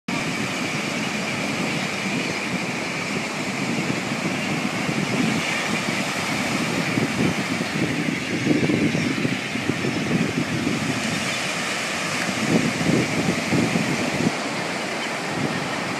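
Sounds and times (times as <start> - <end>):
ocean waves breaking on beach: 0.1 - 15.9.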